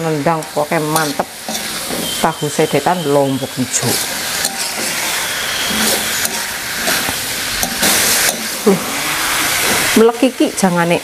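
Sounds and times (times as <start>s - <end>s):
metal spatula scraping wok: 0.0s - 10.3s
food sizzling in a wok: 0.0s - 11.0s.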